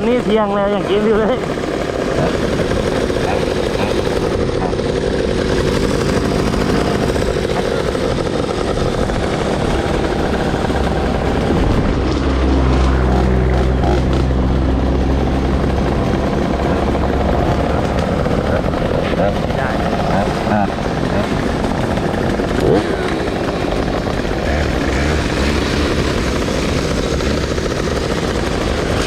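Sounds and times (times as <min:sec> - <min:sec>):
deep engine hum: 0:00.0 - 0:29.0
motorcycle engine running: 0:00.0 - 0:29.0
wind noise: 0:01.8 - 0:29.0.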